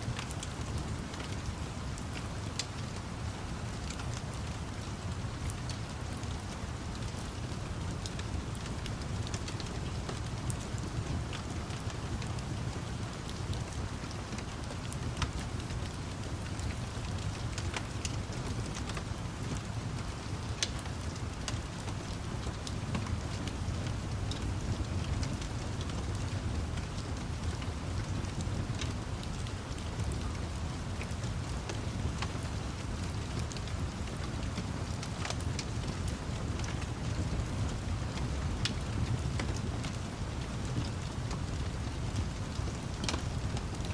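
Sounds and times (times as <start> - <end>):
steady rain: 0.0 - 43.9
wood fire crackling: 0.1 - 43.9.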